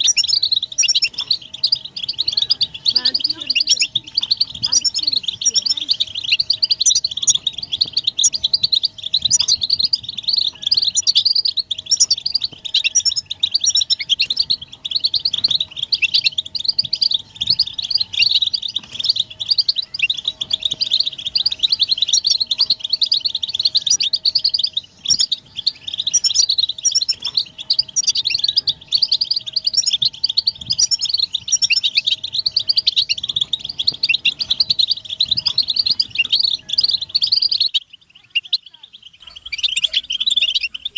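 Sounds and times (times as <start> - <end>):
goldfinches twittering: 0.0 - 40.9.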